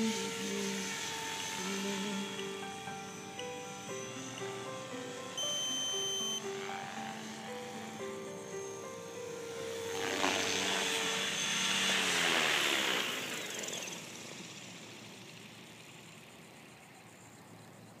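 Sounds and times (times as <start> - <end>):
small motor whirring past: 0.0 - 18.0.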